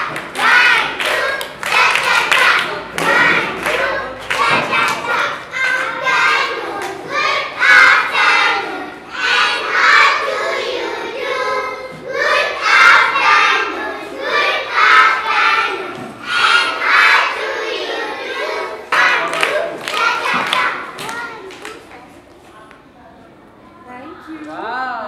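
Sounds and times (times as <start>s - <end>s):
children singing together: 0.0s - 21.5s.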